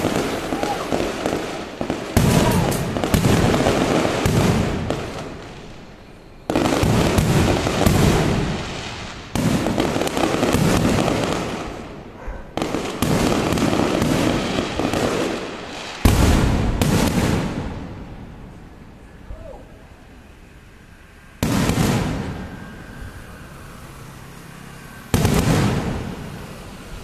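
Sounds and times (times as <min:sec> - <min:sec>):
fireworks bursts: 0:00.0 - 0:27.0
fireworks crackling: 0:00.0 - 0:27.0.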